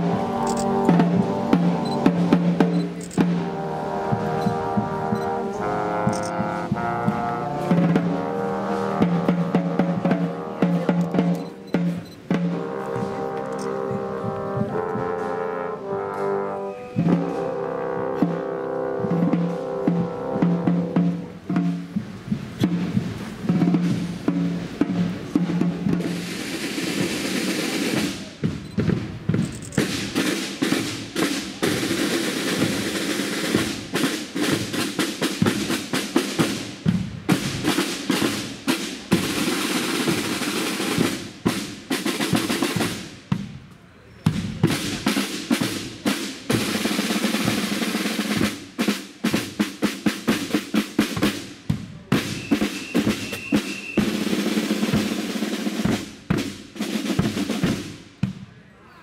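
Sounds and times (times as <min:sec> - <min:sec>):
snare drum rolls: 0:00.0 - 0:58.5.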